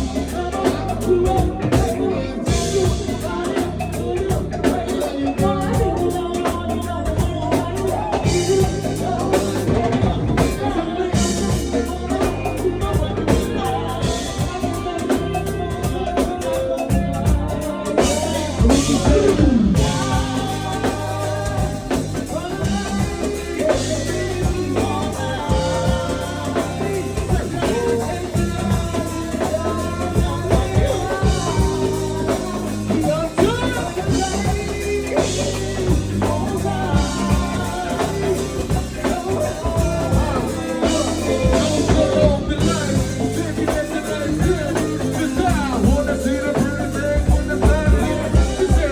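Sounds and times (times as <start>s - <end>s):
drum kit beat: 0.0s - 48.9s
lead melody: 0.0s - 48.9s
walking bass line: 0.0s - 48.9s.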